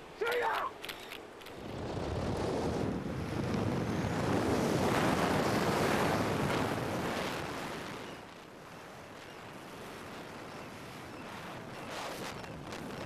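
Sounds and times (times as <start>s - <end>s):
wind roaring over microphone: 1.2s - 13.0s.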